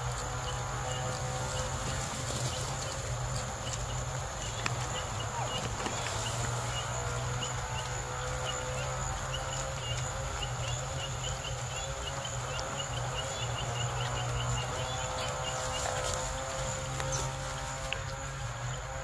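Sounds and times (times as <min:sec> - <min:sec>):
high insect-like drone: 0:00.0 - 0:19.0.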